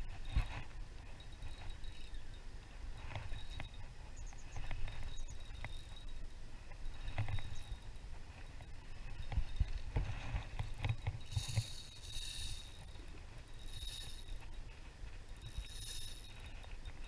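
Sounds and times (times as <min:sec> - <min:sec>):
fishing reel cranking: 0:00.1 - 0:02.4, 0:03.0 - 0:03.8, 0:04.4 - 0:14.6, 0:15.2 - 0:17.0.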